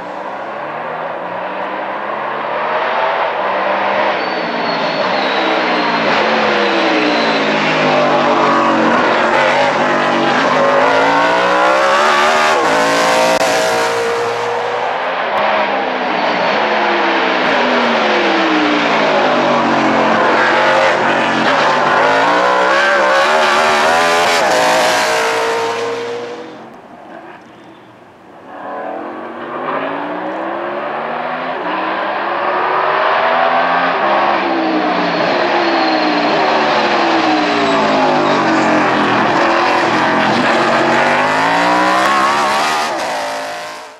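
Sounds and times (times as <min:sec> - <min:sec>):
race car engine revving: 0:00.0 - 0:27.6, 0:28.5 - 0:43.9.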